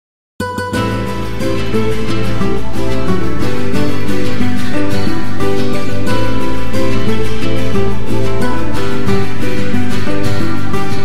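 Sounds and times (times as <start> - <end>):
instrumental background music: 0.4 - 11.0.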